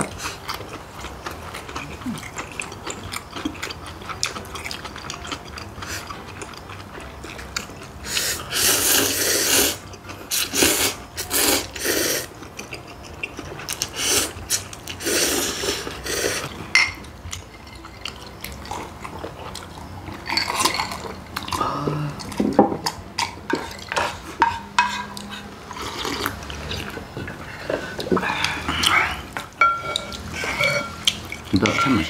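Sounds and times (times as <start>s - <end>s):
utensils clinking against bowls: 0.0s - 32.0s.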